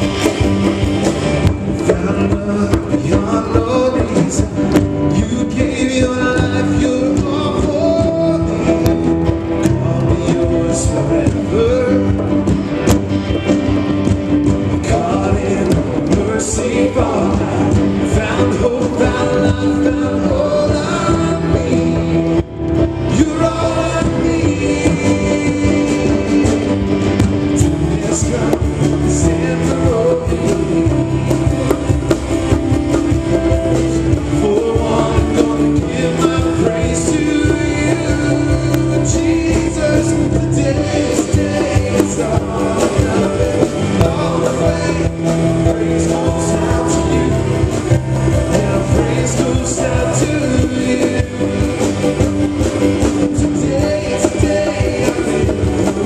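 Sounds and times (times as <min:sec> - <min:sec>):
drums: 0:00.0 - 0:56.0
electric guitar: 0:00.0 - 0:56.0
keyboard: 0:00.0 - 0:56.0
lead and backing vocals singing: 0:00.0 - 0:56.0
worship band playing: 0:00.0 - 0:56.0.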